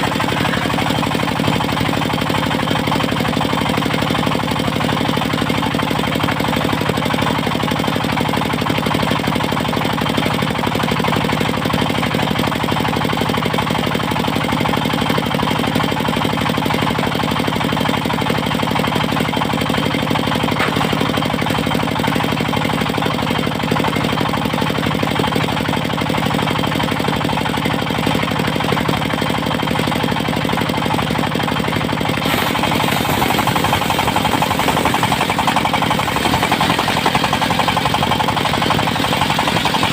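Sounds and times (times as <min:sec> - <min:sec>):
sawmill engine knocking: 0:00.0 - 0:39.9.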